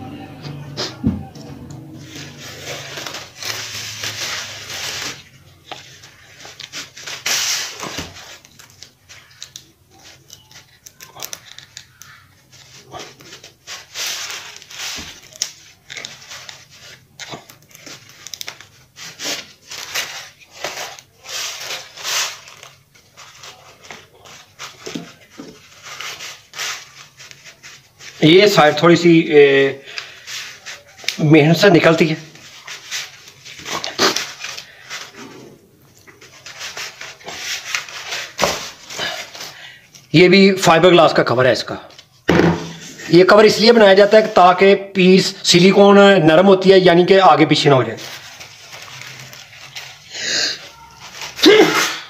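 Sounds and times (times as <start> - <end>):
plastic sheeting crinkling: 1.9 - 52.0.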